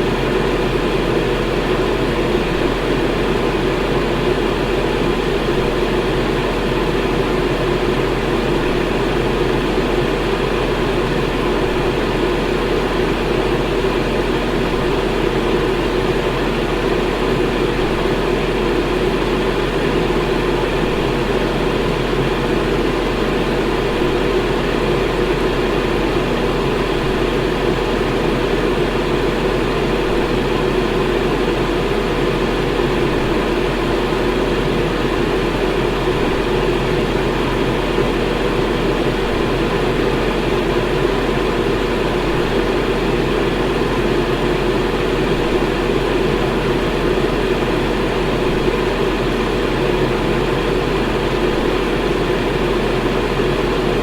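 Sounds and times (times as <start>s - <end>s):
electric fan running: 0.0s - 54.0s.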